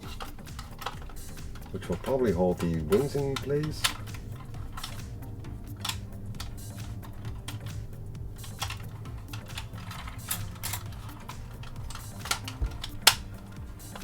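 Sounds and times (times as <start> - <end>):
plastic toy clicking and tapping: 0.0 - 14.0.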